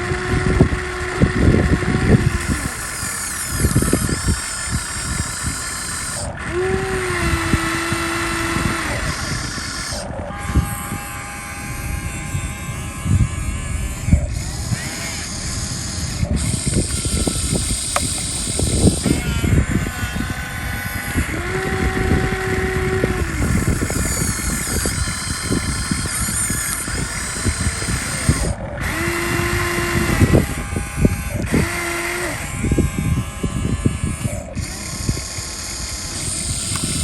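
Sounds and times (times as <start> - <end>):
motor whine: 0.0 - 37.0.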